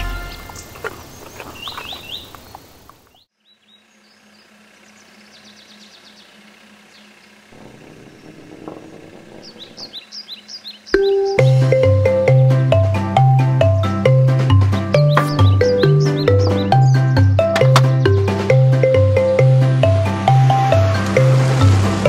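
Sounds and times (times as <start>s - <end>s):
birds chirping: 0.1s - 21.4s.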